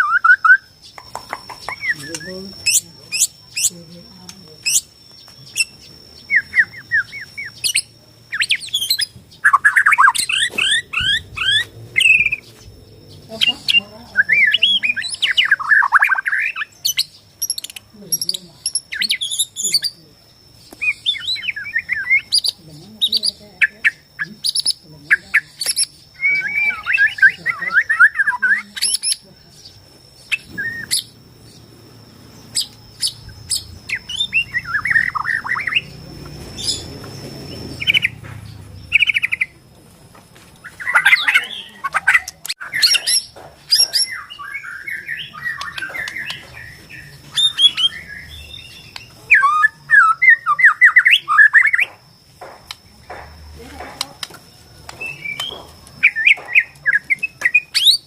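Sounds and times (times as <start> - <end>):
songbird warbling: 0.0 - 39.6, 40.6 - 53.2.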